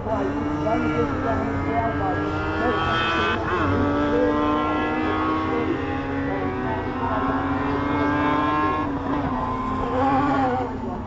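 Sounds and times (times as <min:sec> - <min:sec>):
buggy engines racing at high revs: 0:00.0 - 0:11.0.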